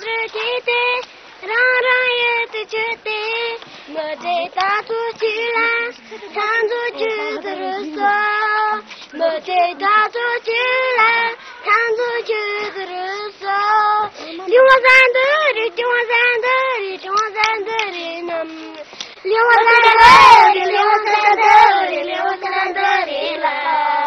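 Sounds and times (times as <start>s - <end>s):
boy singing unaccompanied: 0.0s - 24.0s.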